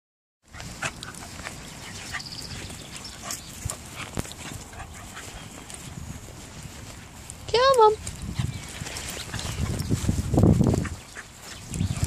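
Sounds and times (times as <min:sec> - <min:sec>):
dogs play-fighting: 0:00.5 - 0:07.2, 0:08.1 - 0:12.0.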